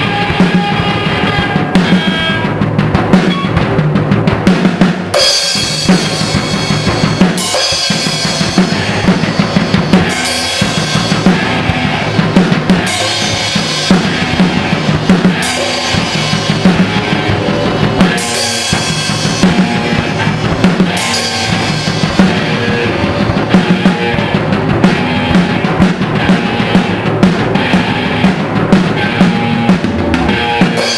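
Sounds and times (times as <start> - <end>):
rock band playing loudly: 0.0 - 30.9.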